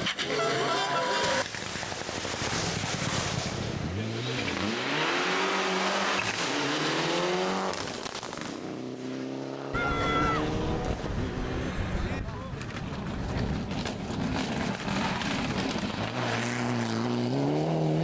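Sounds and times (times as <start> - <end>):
tyre and road noise: 0.0 - 18.0
rally car engine revving: 2.2 - 18.0.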